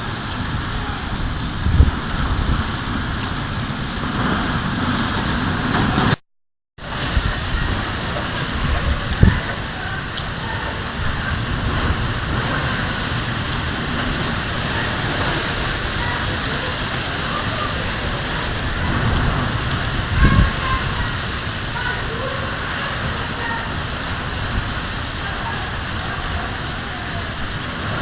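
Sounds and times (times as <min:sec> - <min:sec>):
heavy rain pattering: 0:00.0 - 0:06.2, 0:06.8 - 0:28.0.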